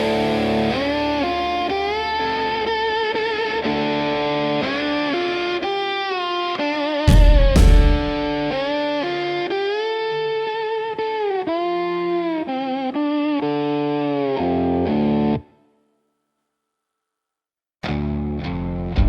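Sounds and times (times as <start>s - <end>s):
country-rock electric guitar music: 0.0s - 15.5s.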